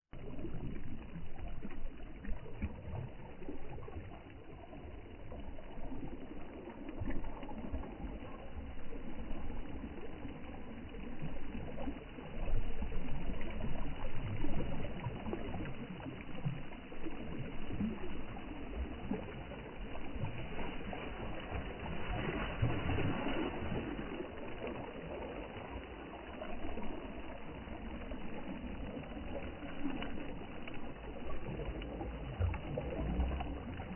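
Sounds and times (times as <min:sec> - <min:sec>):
sea waves washing in: 0:02.5 - 0:30.8.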